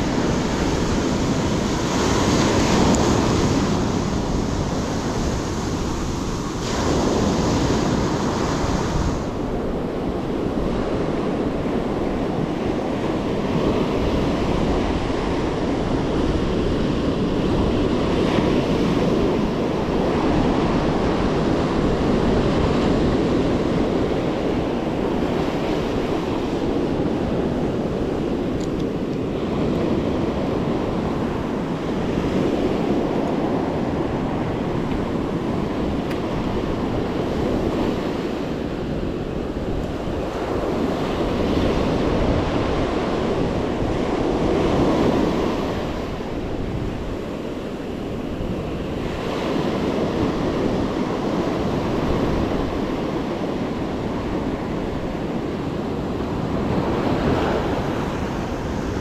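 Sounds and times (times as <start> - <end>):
ocean surf breaking: 0.0 - 59.0.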